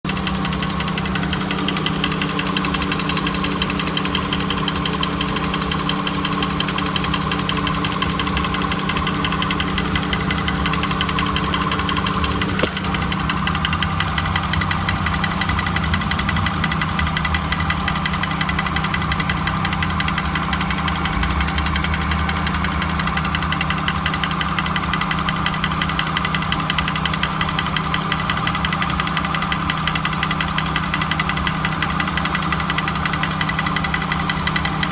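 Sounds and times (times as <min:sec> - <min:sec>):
car engine running: 0:00.0 - 0:34.9
grinding rattle: 0:00.1 - 0:34.9.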